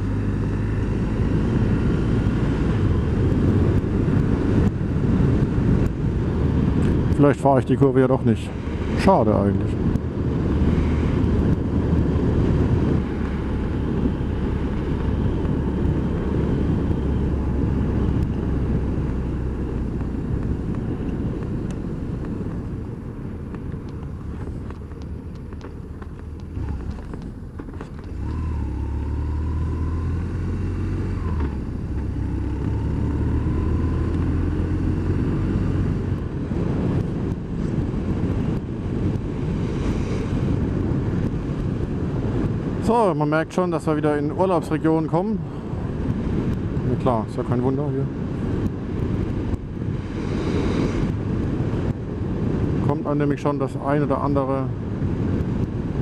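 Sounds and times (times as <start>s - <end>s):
wind and road rush: 0.0s - 56.0s.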